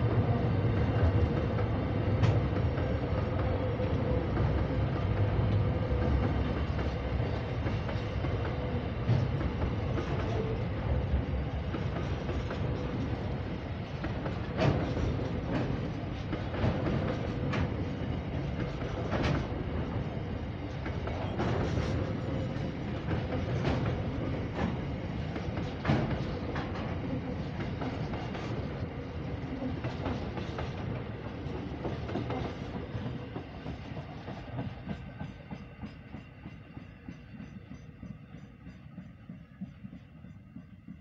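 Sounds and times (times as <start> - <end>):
freight train rumble: 0.0 - 41.0
train wheels clacking over rail joints: 0.9 - 41.0.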